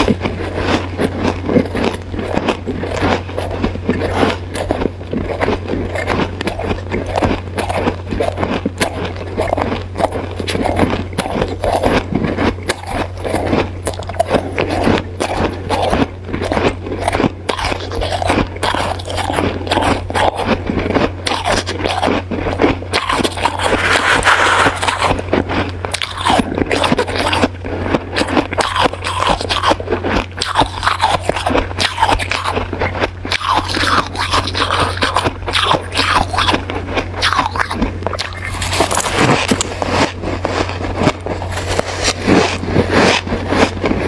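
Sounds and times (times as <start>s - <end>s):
crunching ice between teeth: 0.0s - 44.0s
steady low hum: 0.0s - 44.0s.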